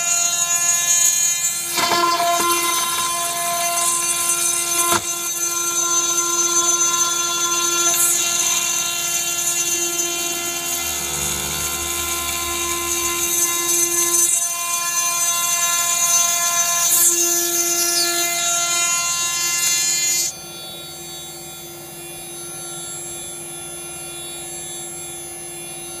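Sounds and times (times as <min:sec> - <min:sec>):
router spindle whine: 0:00.0 - 0:26.0.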